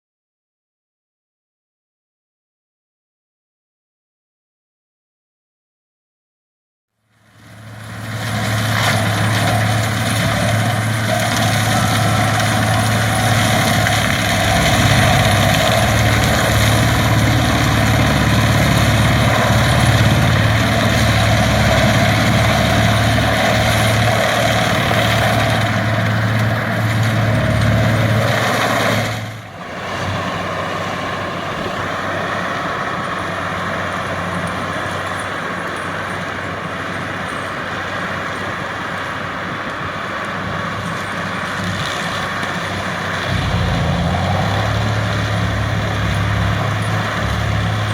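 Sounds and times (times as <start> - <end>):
tractor engine running: 7.3 - 37.0, 38.8 - 47.9.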